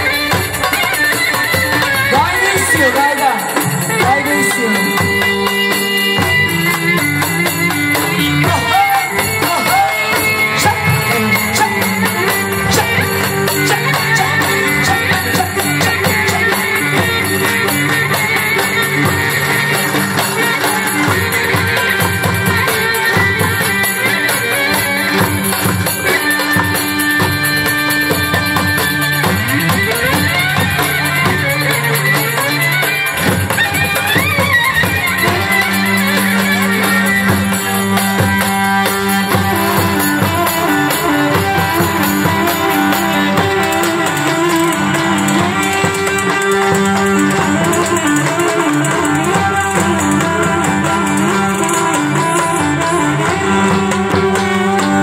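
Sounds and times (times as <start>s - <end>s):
live band dance music: 0.0s - 55.0s
melody with sliding notes: 0.0s - 55.0s
steady drum beat: 0.0s - 55.0s.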